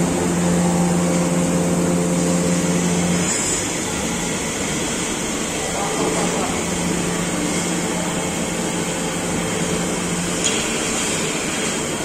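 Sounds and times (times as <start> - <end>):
machine low whine: 0.0 - 12.0.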